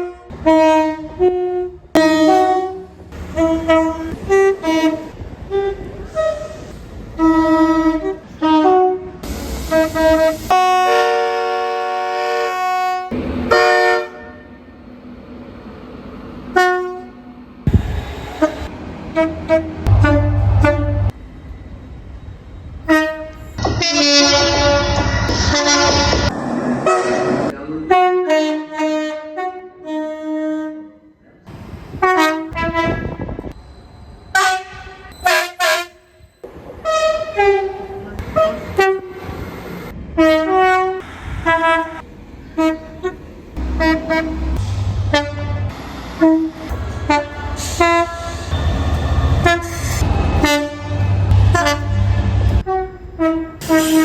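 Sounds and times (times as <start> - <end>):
train horn blasts: 0.0 - 14.8, 16.5 - 21.2, 22.8 - 31.1, 32.0 - 33.6, 34.3 - 39.2, 40.2 - 54.0.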